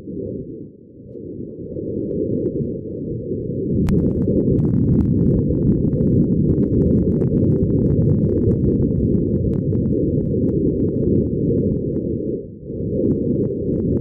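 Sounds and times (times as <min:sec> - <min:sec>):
low rumbling noise: 0:00.0 - 0:14.0
faint crackles: 0:00.1 - 0:14.0.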